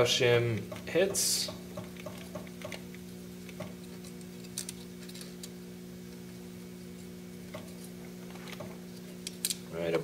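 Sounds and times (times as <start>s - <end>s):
lathe electrical hum: 0.0s - 10.0s.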